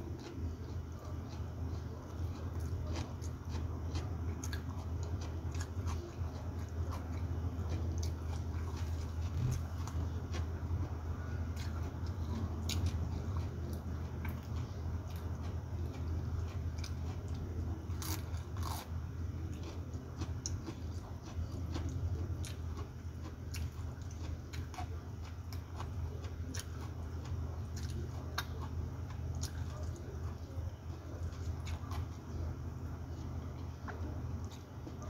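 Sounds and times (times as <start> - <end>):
steady low hum: 0.0 - 35.0
person crunching lettuce wetly: 0.2 - 32.4.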